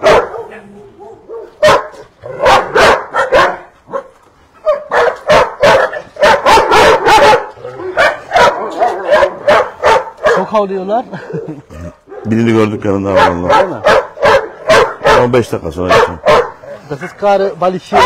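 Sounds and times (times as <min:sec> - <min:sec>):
dogs barking: 0:00.0 - 0:18.0.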